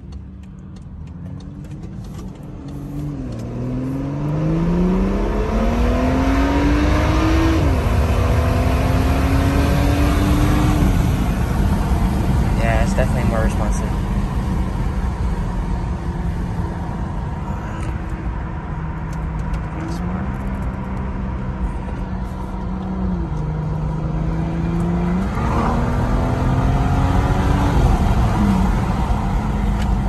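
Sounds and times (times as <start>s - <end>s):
car engine from inside cabin: 0.0s - 30.0s
road and tyre rumble: 0.0s - 30.0s.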